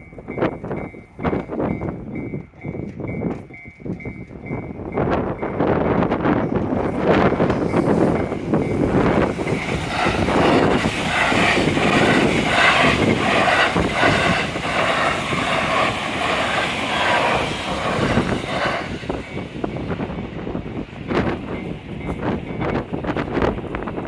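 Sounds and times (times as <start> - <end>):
train passing at speed: 0.0 - 24.0.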